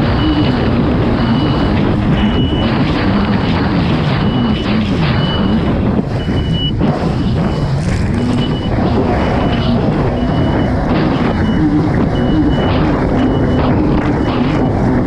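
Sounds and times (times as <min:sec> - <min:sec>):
personal watercraft engine racing: 0:00.0 - 0:15.0
short high-pitched beep: 0:01.2 - 0:02.8, 0:04.2 - 0:14.8.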